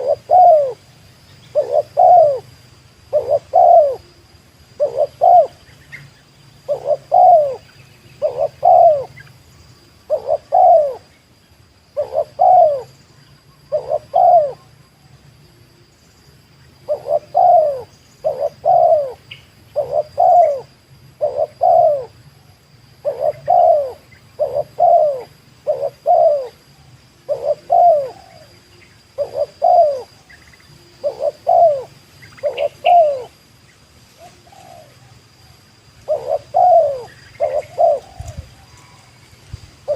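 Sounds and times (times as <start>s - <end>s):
dove cooing: 0.0s - 9.4s, 10.0s - 11.1s, 11.9s - 14.8s, 16.8s - 22.4s, 23.0s - 33.4s, 34.2s - 39.2s.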